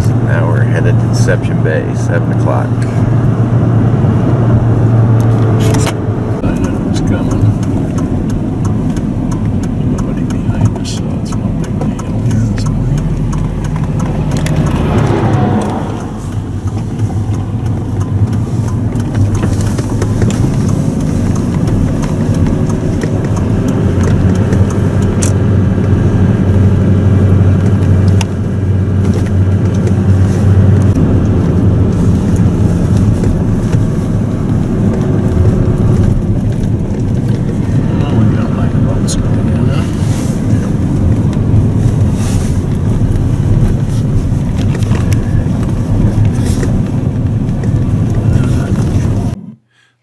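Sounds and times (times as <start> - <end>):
vehicle engine and road rumble: 0.0 - 50.0.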